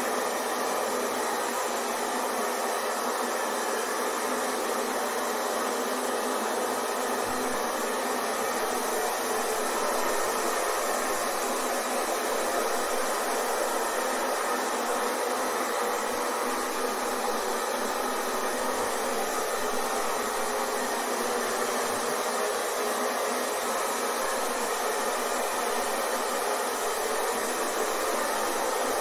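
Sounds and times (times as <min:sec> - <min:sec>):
hair dryer running: 0:00.0 - 0:29.0.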